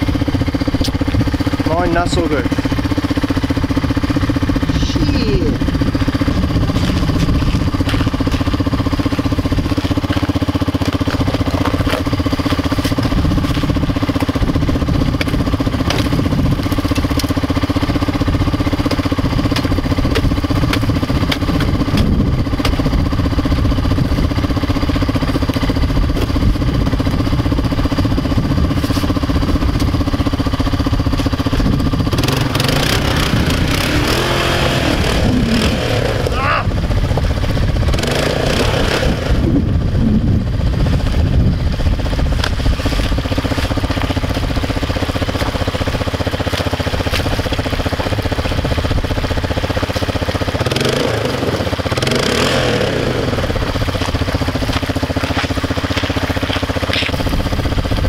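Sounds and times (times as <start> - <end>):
atv engine idling: 0.0 - 58.0
wheels churning in water: 0.0 - 58.0.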